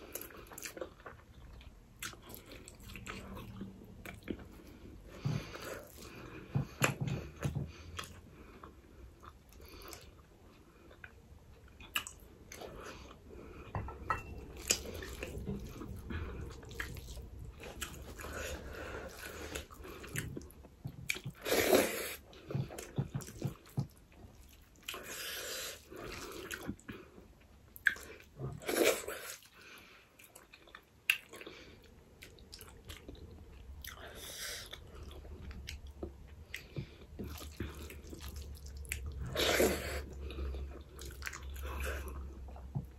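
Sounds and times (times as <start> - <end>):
person chewing with lip smacking: 0.0 - 13.2, 14.5 - 29.6, 30.2 - 42.9.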